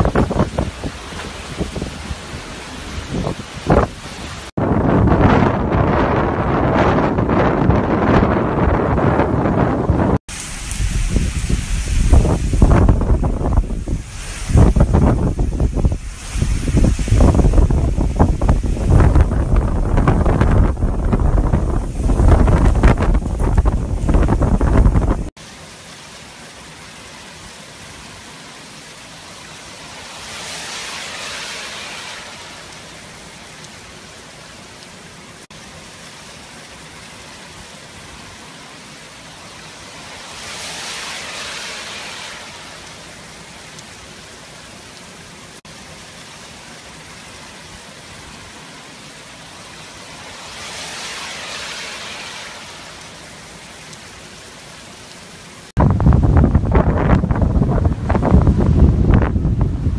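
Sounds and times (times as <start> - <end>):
heavy rain hissing: 0.0 - 9.2, 10.2 - 59.9
wind gusts: 0.0 - 59.9.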